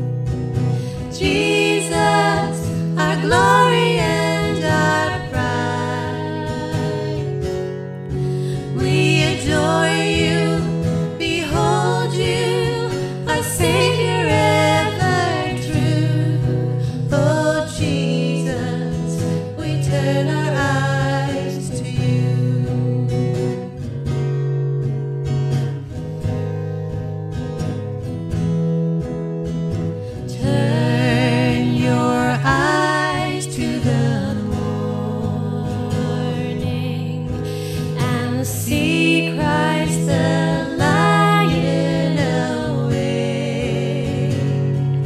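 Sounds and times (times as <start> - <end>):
strummed acoustic guitar: 0.0 - 45.0
women singing: 0.8 - 23.7, 30.1 - 45.0.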